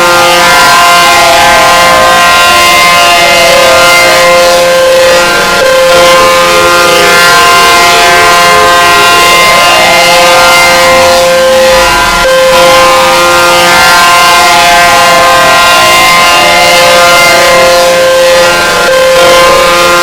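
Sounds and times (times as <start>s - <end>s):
tornado warning siren: 0.0s - 20.0s.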